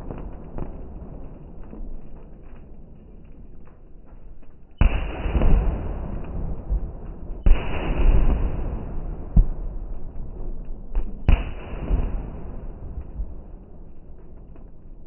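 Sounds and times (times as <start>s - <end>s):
firework bangs with rumble: 0.0s - 2.8s, 4.8s - 14.8s.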